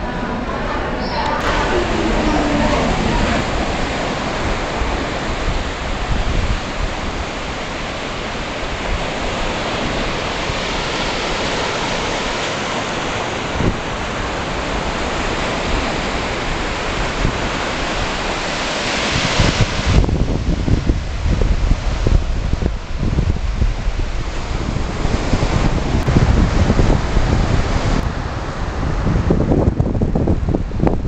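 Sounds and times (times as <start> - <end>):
surf breaking on a beach: 0.0 - 31.0
wind rumbling on microphone: 0.0 - 31.0.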